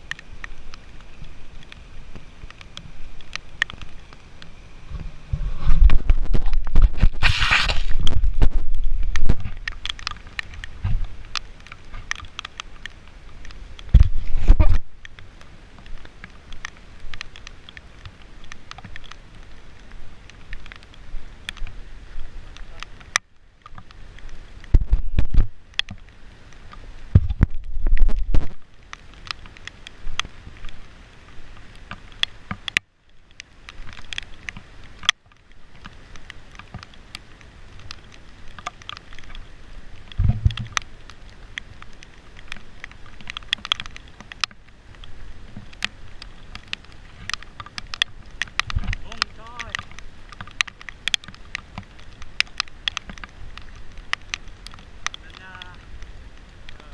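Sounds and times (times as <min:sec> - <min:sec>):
raindrops pattering on camera: 0:00.0 - 0:56.9.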